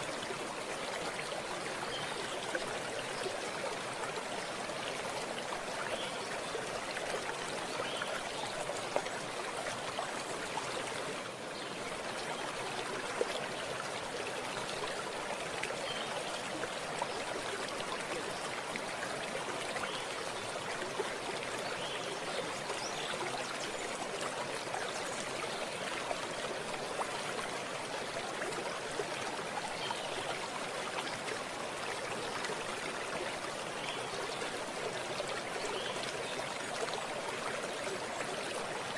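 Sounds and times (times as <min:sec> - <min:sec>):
stream babbling and trickling: 0:00.0 - 0:38.9.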